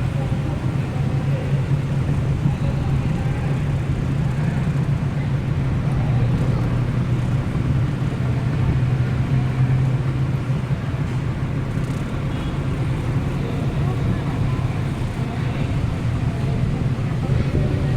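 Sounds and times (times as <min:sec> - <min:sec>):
boat motor droning: 0:00.0 - 0:17.9.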